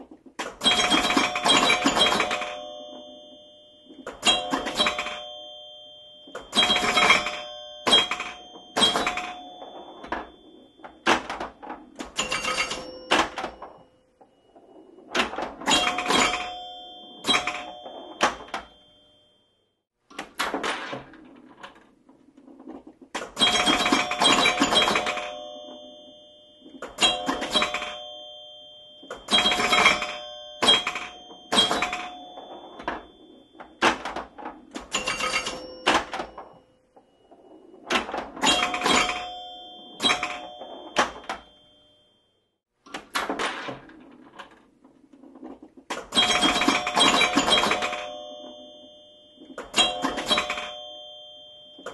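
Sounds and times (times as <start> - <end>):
pinball clacking hits: 0.0 - 13.9, 14.6 - 18.9, 20.1 - 41.7, 42.9 - 51.9
ringing bell chimes: 0.6 - 19.6, 23.4 - 42.4, 46.2 - 51.9.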